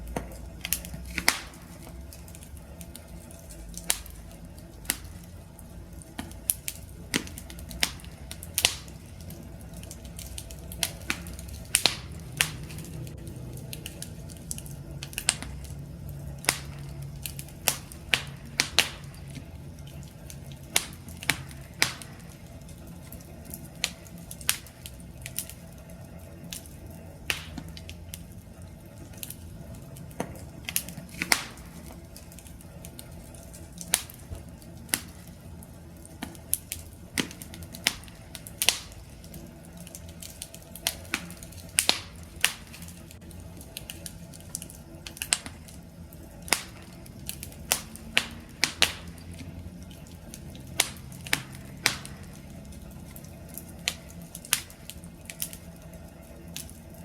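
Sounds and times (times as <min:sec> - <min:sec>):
low rumble of burning fire: 0:00.0 - 0:57.0
wood fire crackling and popping: 0:00.0 - 0:57.0.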